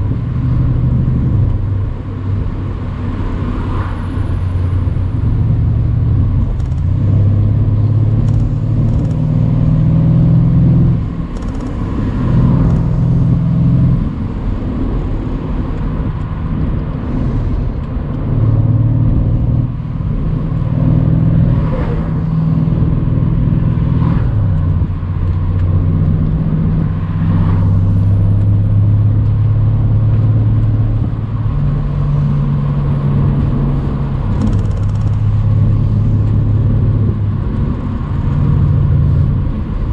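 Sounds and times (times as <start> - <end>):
car engine drone: 0.0 - 39.9
road noise: 0.0 - 39.9
wind noise: 0.0 - 39.9.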